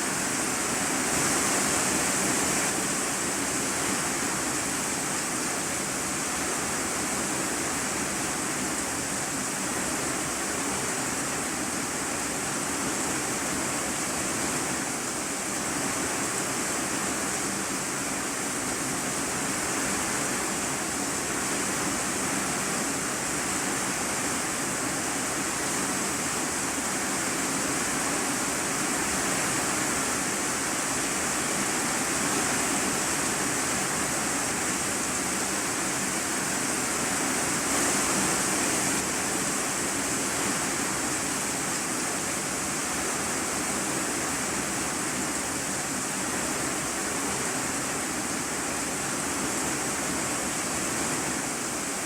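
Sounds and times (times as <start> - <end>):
rain on a metal roof: 0.0 - 52.0.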